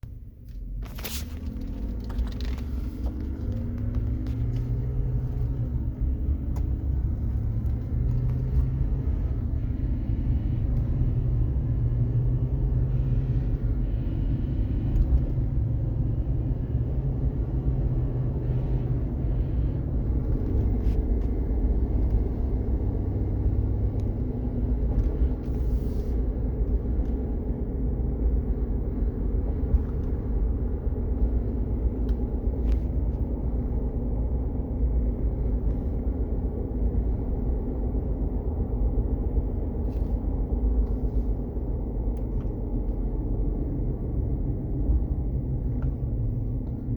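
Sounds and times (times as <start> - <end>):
undercarriage whine: 0.0 - 46.9.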